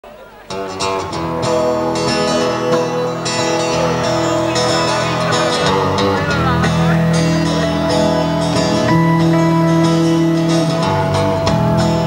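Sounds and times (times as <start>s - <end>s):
country band playing: 0.0s - 12.0s.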